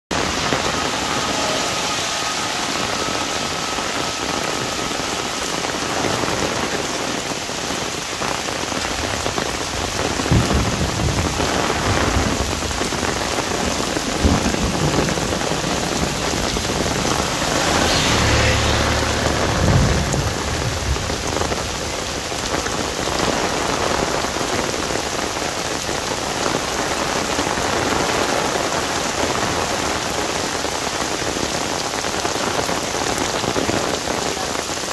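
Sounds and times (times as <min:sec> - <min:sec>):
heavy rain on umbrella: 0:00.0 - 0:34.9
low thunder rumbles: 0:00.1 - 0:28.6.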